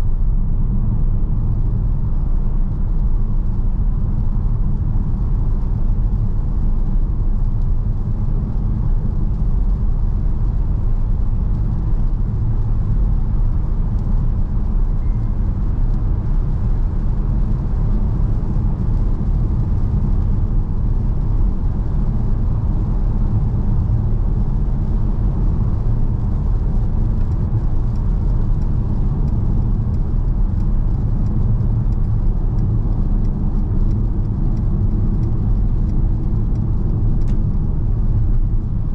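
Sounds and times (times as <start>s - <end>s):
van engine and road noise: 0.0s - 38.9s.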